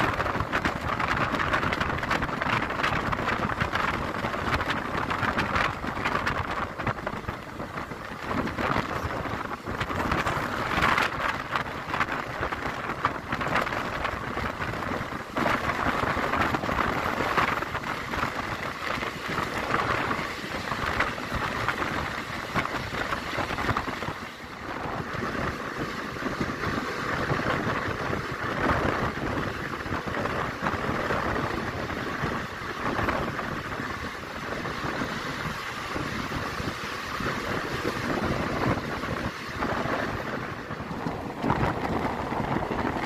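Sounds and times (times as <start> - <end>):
air rushing past train: 0.0 - 43.0
train wheels rushing on track: 0.0 - 43.0.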